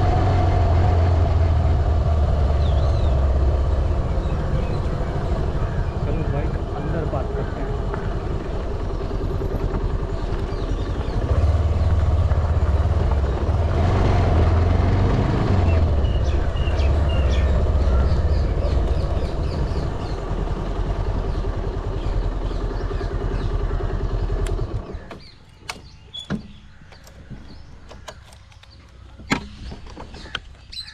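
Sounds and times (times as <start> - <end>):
motorcycle engine running: 0.0 - 29.2.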